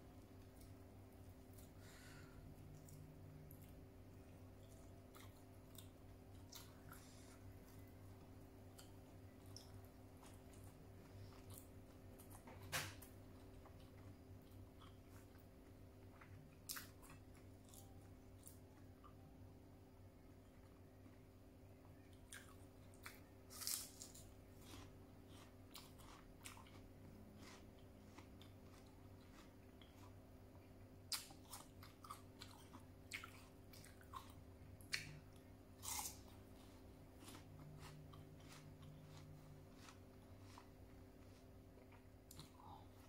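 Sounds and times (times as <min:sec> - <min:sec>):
person chewing crisp pear: 0:00.1 - 0:19.6, 0:20.3 - 0:43.0.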